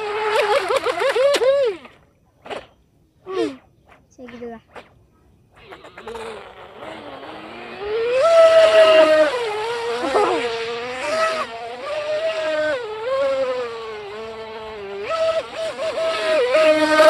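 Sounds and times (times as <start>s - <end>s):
small electric motor whining: 0.0s - 2.6s, 5.6s - 17.0s.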